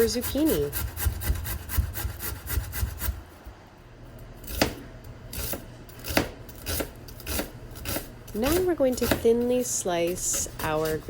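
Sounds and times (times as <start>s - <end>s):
zucchini rasping on a grater: 0.0s - 3.2s, 5.3s - 11.0s.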